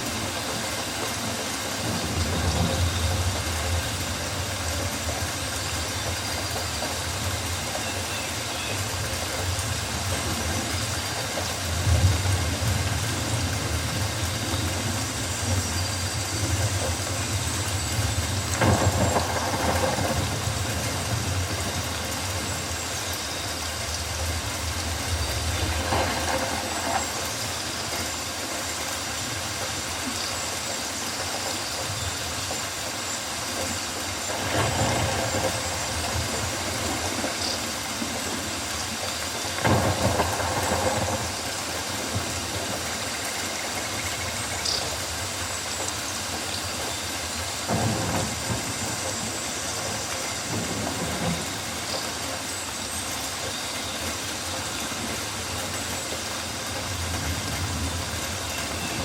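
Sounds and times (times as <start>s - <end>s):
steady rain in forest: 0.0s - 59.0s.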